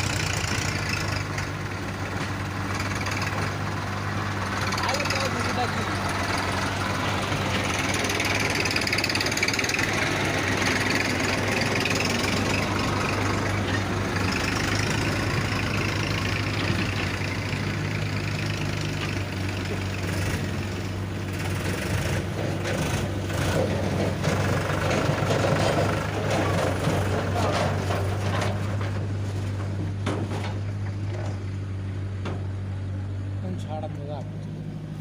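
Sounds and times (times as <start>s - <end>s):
heavy diesel engines running: 0.0s - 35.0s.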